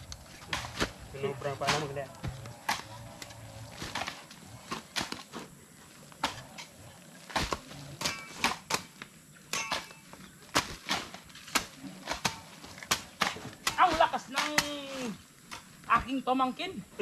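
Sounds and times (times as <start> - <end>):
shovels chopping and scraping soil: 0.1 - 5.5, 6.2 - 16.5.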